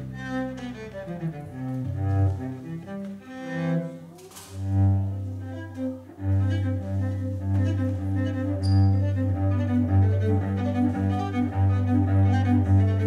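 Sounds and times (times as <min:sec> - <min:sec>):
cello playing long low notes: 0:00.0 - 0:13.0.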